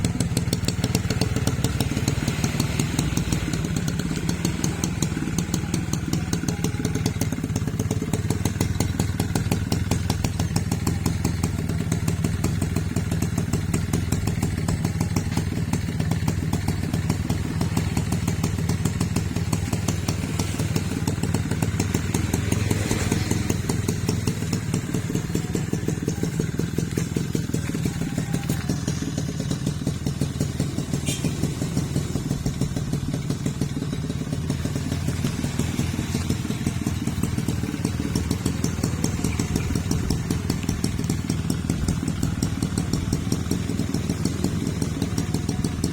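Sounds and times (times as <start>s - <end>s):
two-stroke motorcycle engine running: 0.0s - 45.9s.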